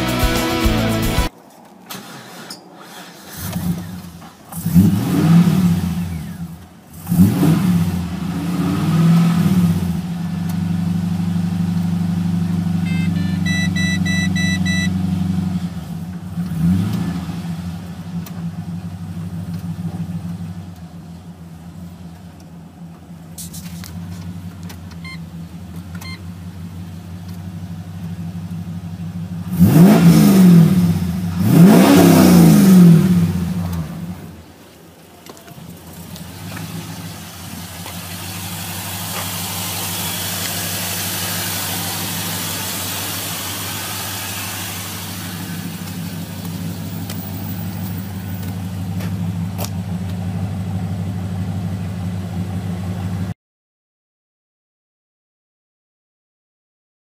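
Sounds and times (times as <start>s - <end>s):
car engine idling and revving: 2.0s - 53.4s.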